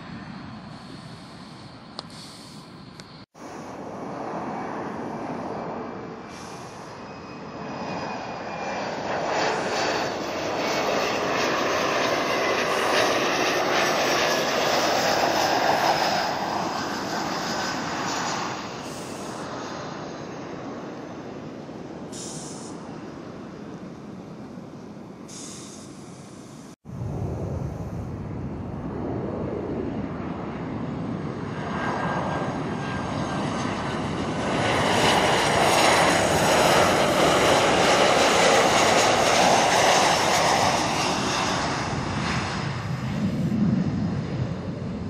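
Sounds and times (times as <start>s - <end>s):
jet airliner passing: 0.0s - 45.0s.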